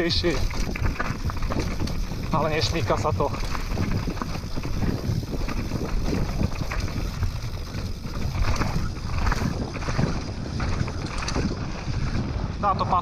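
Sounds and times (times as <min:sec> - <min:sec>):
bike frame knocks and rattles: 0:00.0 - 0:12.3
bike tyres on stones and dirt: 0:00.0 - 0:13.0
wind on microphone: 0:00.0 - 0:13.0.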